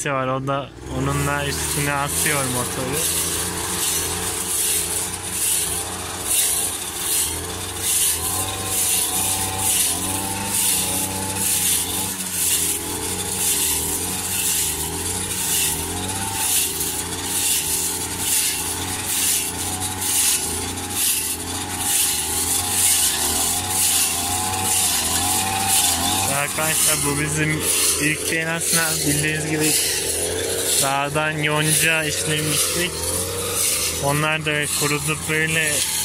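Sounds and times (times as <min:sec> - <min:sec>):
brush cutter shredding dry grass: 0:00.1 - 0:36.0.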